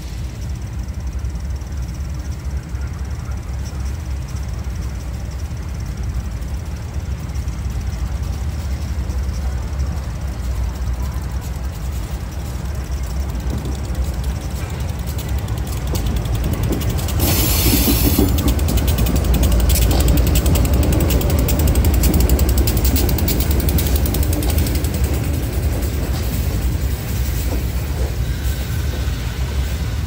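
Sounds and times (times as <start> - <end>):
freight train rumbling past: 0.0 - 30.0
train wheels clattering on rails: 0.0 - 30.0.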